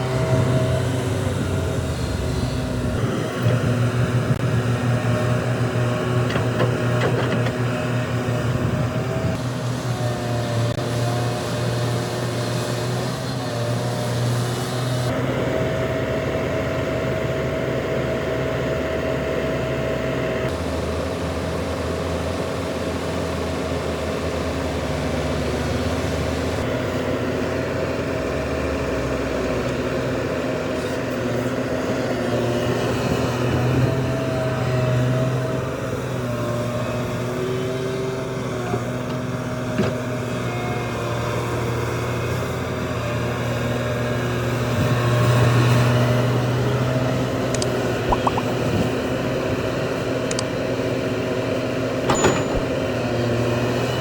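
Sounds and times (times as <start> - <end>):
diesel engines of earthmoving machinery: 0.0 - 54.0.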